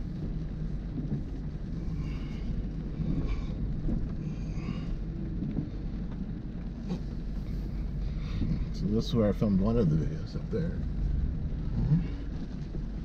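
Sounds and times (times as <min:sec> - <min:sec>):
car rumbling over gravel: 0:00.0 - 0:13.0.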